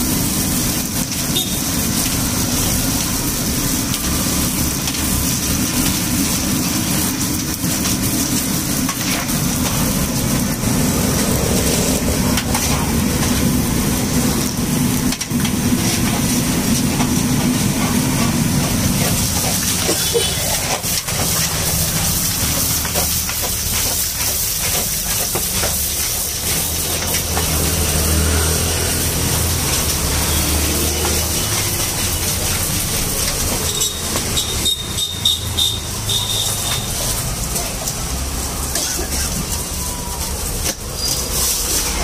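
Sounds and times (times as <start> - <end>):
oil sizzling: 0.0 - 42.0.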